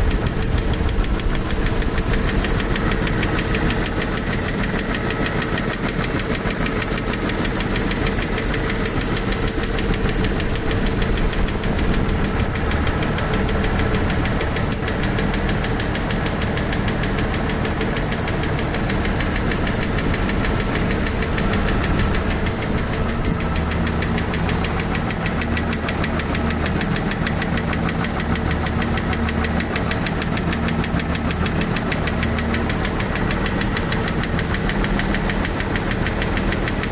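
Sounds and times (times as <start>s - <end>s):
engine running with rapid ticking: 0.0s - 36.9s.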